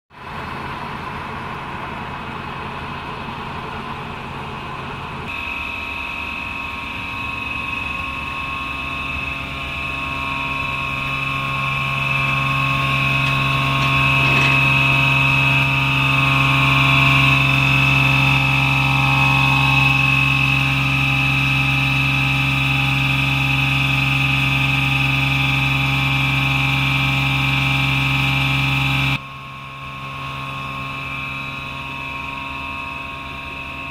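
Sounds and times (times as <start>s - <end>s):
air blowers droning with whine: 0.2s - 33.9s.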